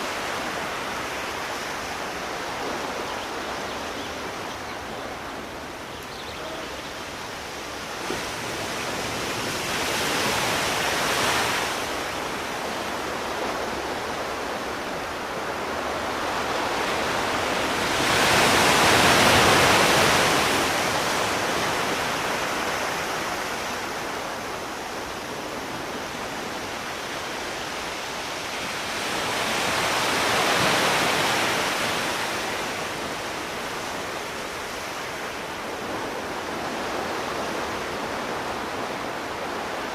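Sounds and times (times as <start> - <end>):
sea waves washing onto shore: 0.0 - 39.9
steady rush of surf: 0.0 - 39.9.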